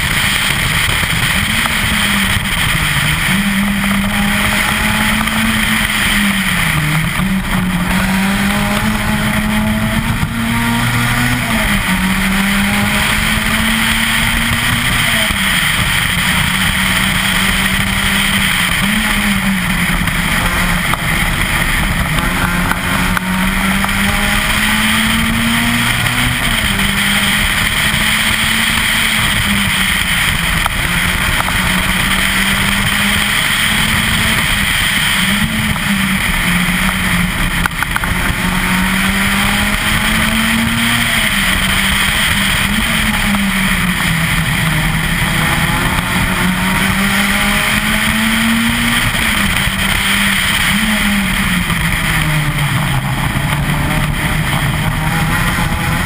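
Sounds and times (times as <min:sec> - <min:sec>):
rally car engine revving: 0:00.0 - 0:56.0
road and wind noise: 0:00.0 - 0:56.0.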